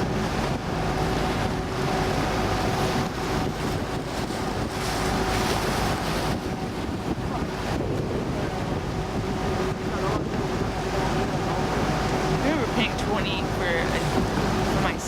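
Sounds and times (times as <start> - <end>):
motorboat engine running: 0.0 - 15.0
water rushing along hull: 0.0 - 15.0
wind buffeting microphone: 0.0 - 15.0.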